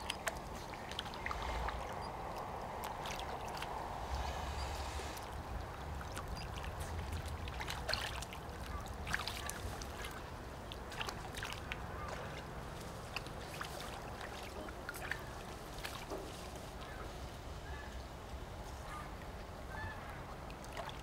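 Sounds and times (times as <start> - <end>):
otter splashing in water: 0.0 - 17.0.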